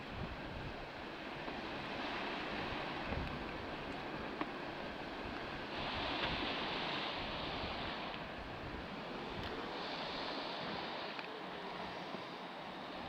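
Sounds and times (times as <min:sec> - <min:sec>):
sea surf: 0:00.0 - 0:13.0
wind on microphone: 0:00.0 - 0:13.0.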